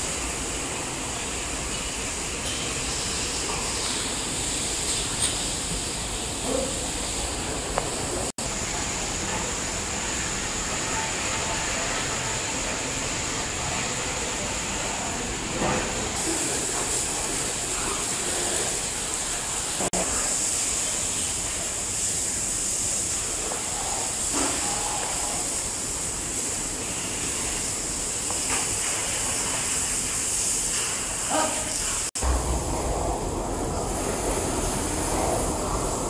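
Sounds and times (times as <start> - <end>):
high-pitched hissing noise: 0.0 - 36.0.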